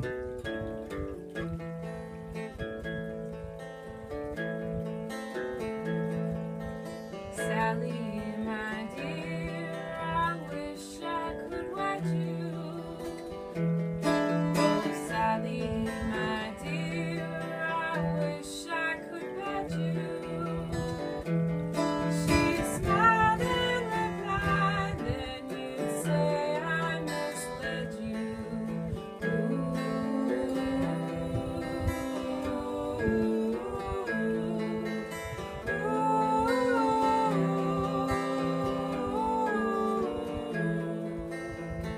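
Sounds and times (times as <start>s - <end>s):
acoustic guitar folk tune: 0.0s - 41.9s.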